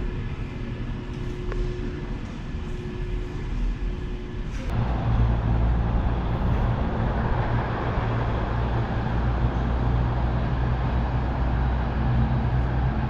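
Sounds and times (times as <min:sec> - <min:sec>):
city traffic rumble: 0:00.0 - 0:13.0
constant low hum: 0:00.0 - 0:13.0.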